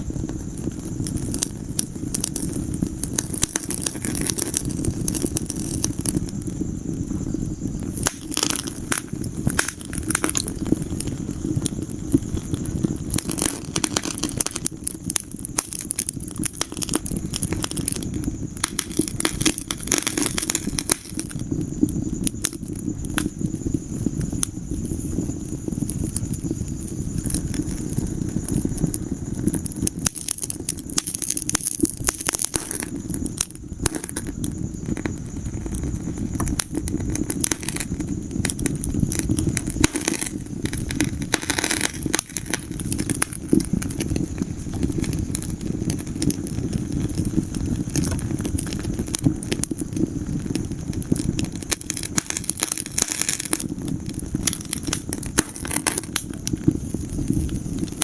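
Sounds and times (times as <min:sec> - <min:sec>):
fire crackling and popping: 0:00.0 - 0:58.0
flames rumbling: 0:00.0 - 0:58.0.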